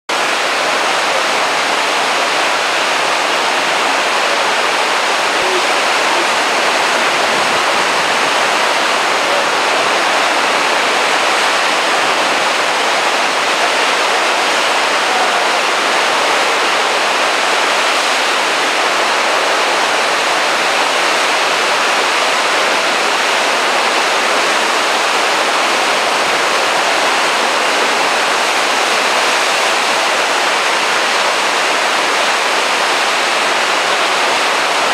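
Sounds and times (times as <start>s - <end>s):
heavy surf churning over rocks: 0.1s - 34.9s.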